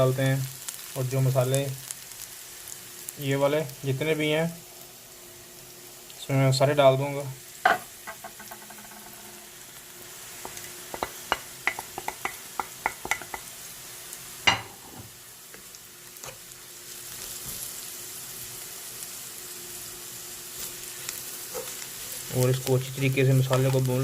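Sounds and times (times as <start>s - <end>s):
onions frying in oil: 0.0s - 24.0s.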